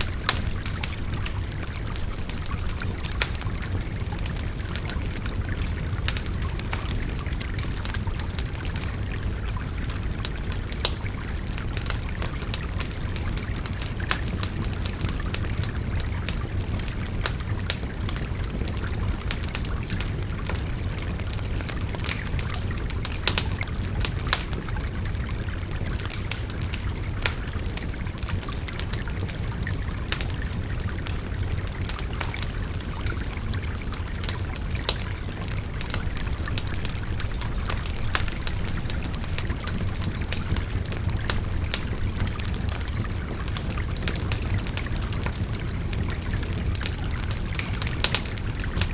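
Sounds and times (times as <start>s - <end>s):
bonfire crackling and popping: 0.0s - 48.9s.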